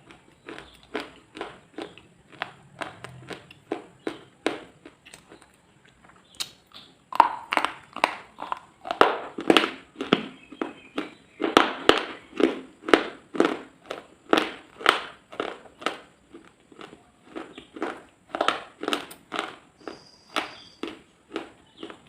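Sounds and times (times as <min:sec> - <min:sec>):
rhythmic crunching: 0:00.0 - 0:22.0.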